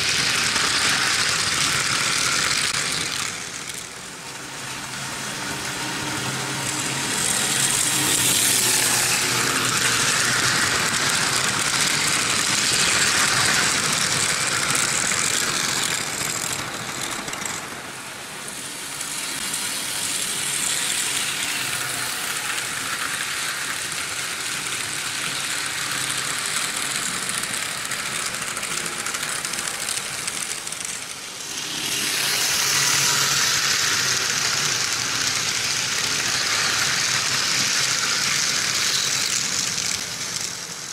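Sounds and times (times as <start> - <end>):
model train wheels rattling on rails: 0.0 - 40.9.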